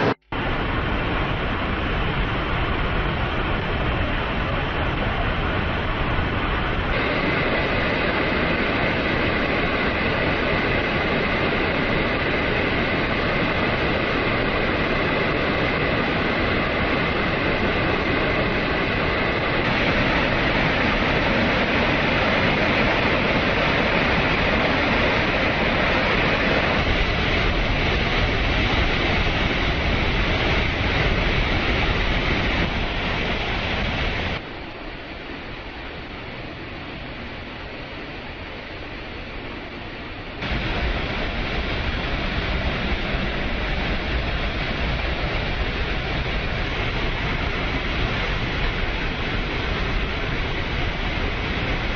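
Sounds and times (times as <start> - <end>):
rushing floodwater roar: 0.0 - 51.9.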